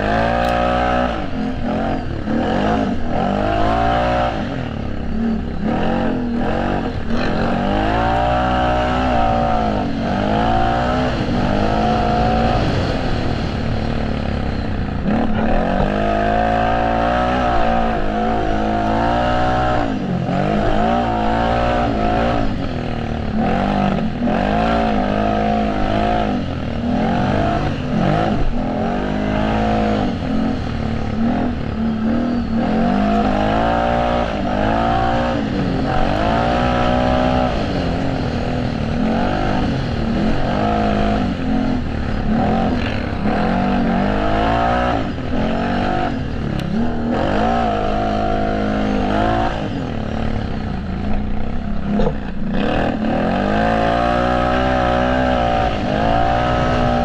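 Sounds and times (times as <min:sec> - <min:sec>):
quad engines revving hard: 0:00.0 - 0:57.0.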